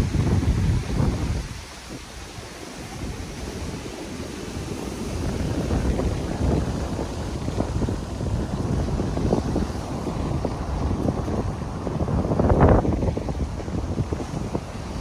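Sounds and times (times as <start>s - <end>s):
surf breaking: 0.0s - 15.0s
wind buffeting microphone: 0.0s - 15.0s.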